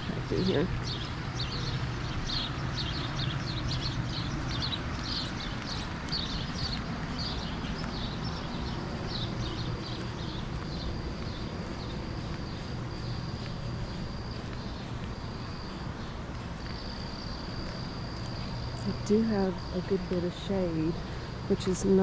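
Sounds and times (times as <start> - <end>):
low steady hum: 0.0 - 22.0
songbirds chirping: 0.0 - 22.0.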